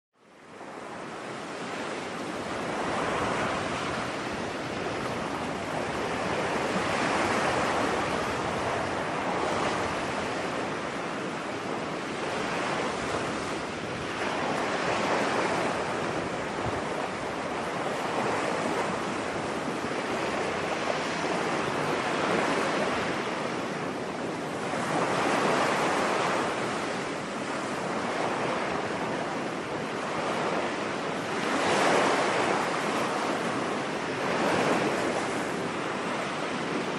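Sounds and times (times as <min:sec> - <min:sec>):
ocean waves breaking: 0:00.3 - 0:36.9.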